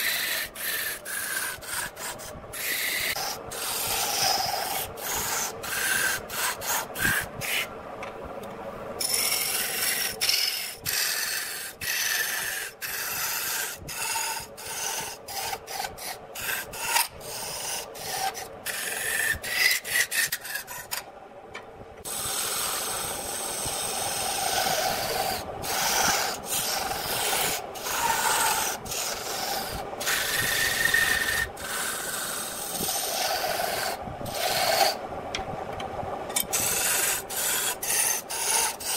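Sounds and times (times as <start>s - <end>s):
lathe tool scraping wood: 0.0s - 7.7s, 9.0s - 21.0s, 22.1s - 35.0s, 36.4s - 38.9s.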